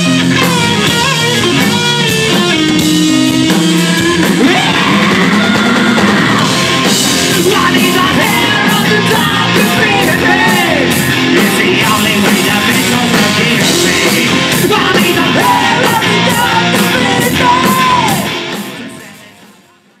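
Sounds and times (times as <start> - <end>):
electric guitar: 0.0 - 19.8
drums with cymbal beat: 0.0 - 20.0
singer singing and yelling: 0.0 - 20.0.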